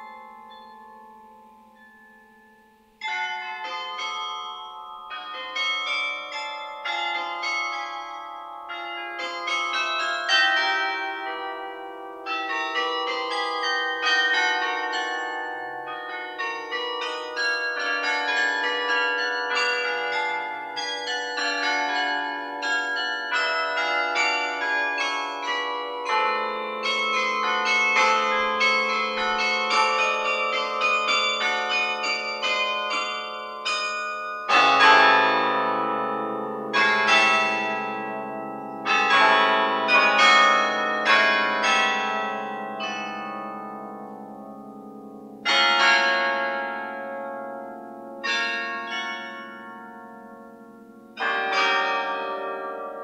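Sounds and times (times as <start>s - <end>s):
carillon bells ringing: 0.0s - 44.8s, 48.2s - 53.0s.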